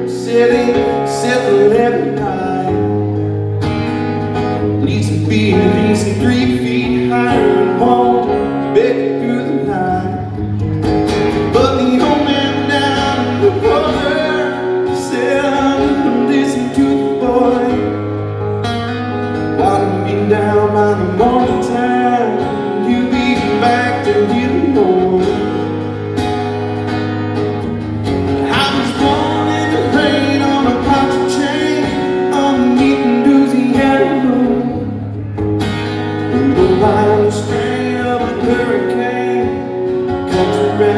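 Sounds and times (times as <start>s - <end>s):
man singing: 0.0s - 3.2s, 4.6s - 10.6s, 11.3s - 18.5s, 19.1s - 26.0s, 28.4s - 40.9s
strummed acoustic guitar: 0.0s - 40.9s.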